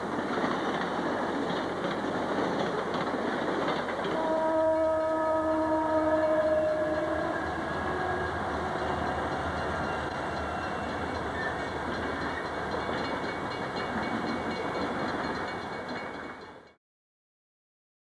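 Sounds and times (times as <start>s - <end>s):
train wheels rumbling on rails: 0.0s - 16.8s.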